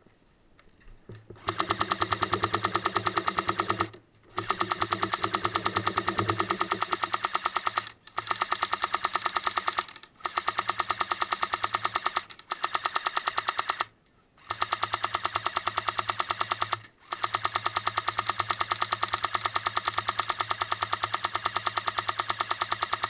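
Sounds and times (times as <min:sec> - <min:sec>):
airsoft gun firing full-auto bursts: 0:01.4 - 0:23.0.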